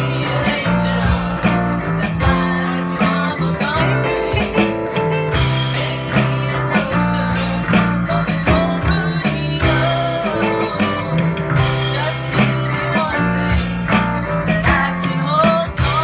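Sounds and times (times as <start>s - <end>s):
band playing guitar instrumental: 0.0s - 16.0s.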